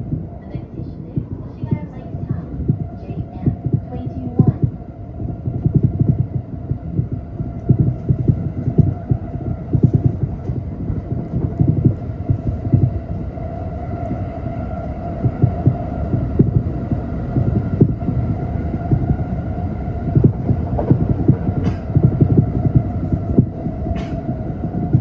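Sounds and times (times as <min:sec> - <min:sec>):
steady hum: 0:00.0 - 0:25.0
train rumble: 0:00.0 - 0:25.0.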